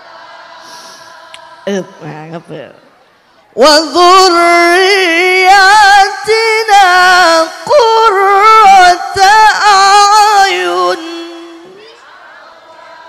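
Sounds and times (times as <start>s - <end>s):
high voice chanting melodically: 0.7s - 2.8s, 3.6s - 12.1s.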